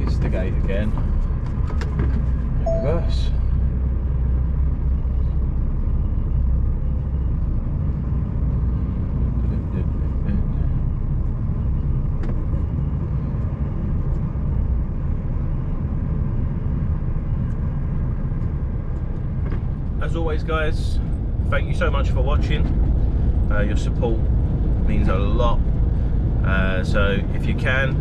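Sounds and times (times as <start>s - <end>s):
diesel truck engine rumbling: 0.0s - 28.0s.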